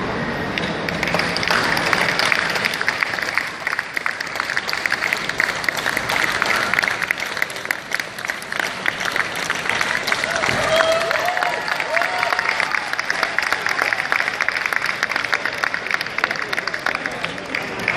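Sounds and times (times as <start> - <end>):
audience applauding: 0.9 - 17.9.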